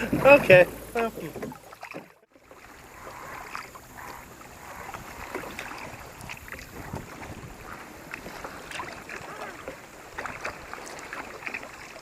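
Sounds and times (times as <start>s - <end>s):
paddle splashing water: 0.0s - 12.0s
steady water noise: 0.0s - 12.0s.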